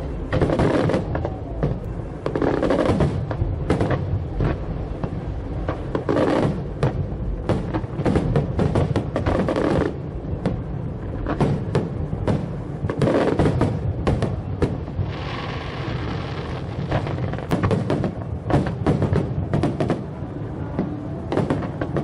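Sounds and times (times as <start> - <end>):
fireworks booming and cracking: 0.0 - 22.0
fireworks hissing and crackling: 0.0 - 22.0.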